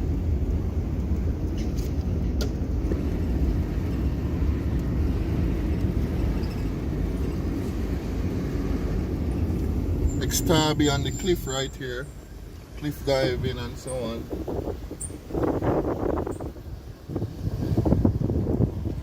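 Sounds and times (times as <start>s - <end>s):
car driving along road: 0.0s - 19.0s.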